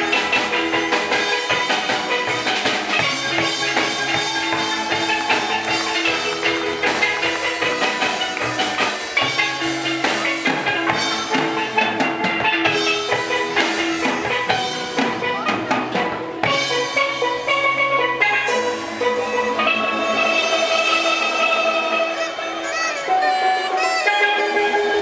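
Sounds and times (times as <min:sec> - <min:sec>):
drum beat: 0:00.0 - 0:22.3
steel pan music: 0:00.0 - 0:25.0.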